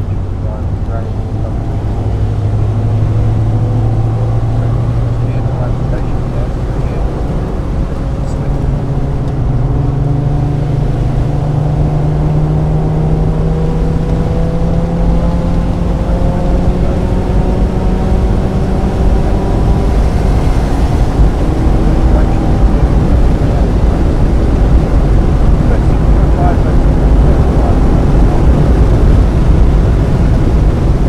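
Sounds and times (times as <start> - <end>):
car engine accelerating: 0.0 - 31.0
road and tyre rumble: 0.0 - 31.0.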